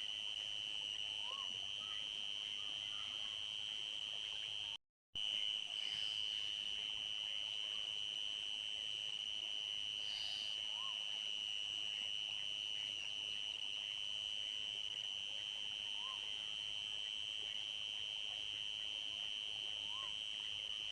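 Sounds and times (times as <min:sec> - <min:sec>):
crickets trilling: 0:00.1 - 0:20.9.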